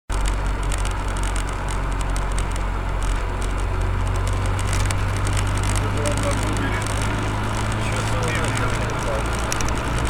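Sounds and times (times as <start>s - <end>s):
car engine and road hum: 0.1s - 10.0s.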